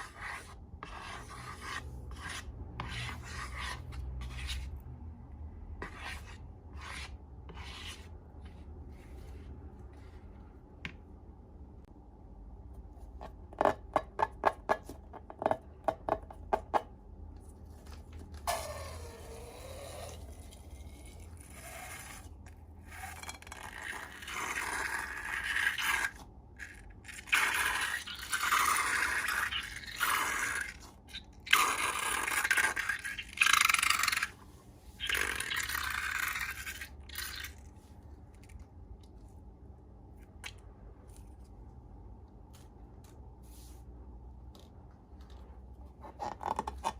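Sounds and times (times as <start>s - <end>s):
slime being scraped and stirred: 0.0s - 5.1s, 5.7s - 10.7s, 17.3s - 46.9s.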